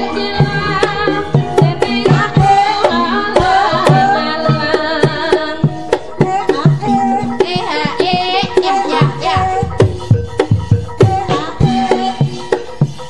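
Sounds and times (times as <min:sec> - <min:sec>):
gamelan music: 0:00.0 - 0:13.0
hand drum strokes: 0:00.0 - 0:13.0
ringing metallophone tones: 0:00.0 - 0:13.0.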